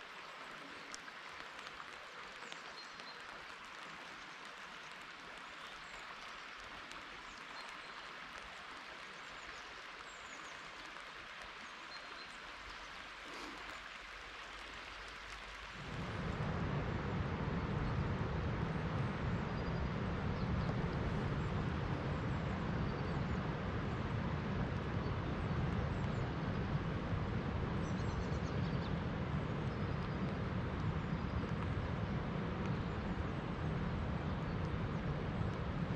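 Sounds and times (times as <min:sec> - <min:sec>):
rain on river: 0:00.0 - 0:35.9
river pouring over weir: 0:00.0 - 0:35.9.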